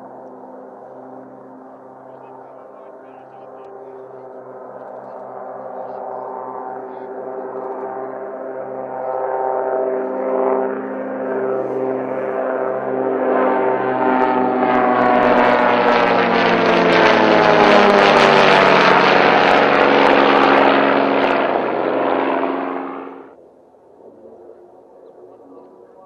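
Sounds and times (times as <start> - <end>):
jet engines whining in low pass: 0.0 - 26.0.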